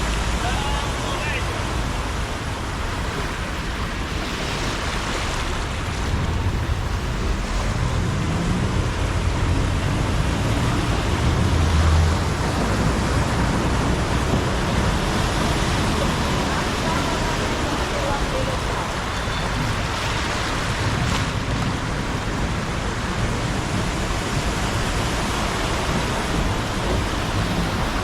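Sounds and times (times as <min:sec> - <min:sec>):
car engine driving through water: 0:00.0 - 0:28.0
heavy rain: 0:00.0 - 0:28.0
rushing floodwater: 0:00.0 - 0:28.0.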